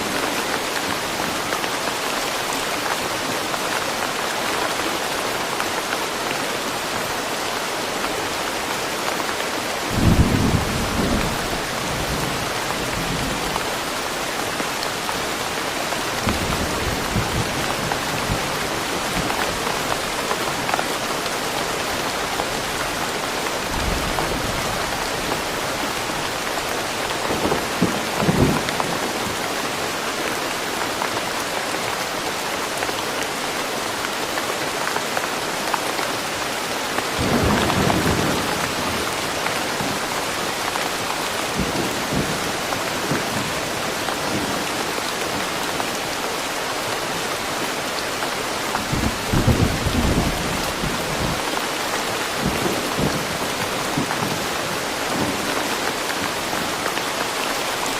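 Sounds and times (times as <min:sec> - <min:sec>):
rain falling in forest: 0:00.0 - 0:57.9.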